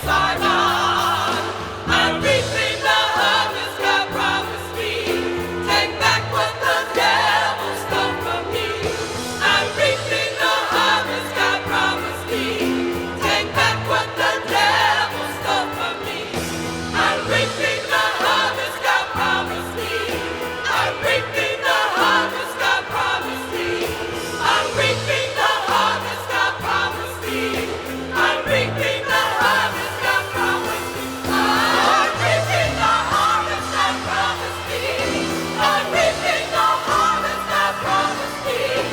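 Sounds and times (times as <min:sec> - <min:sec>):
gospel choir singing: 0:00.0 - 0:38.9.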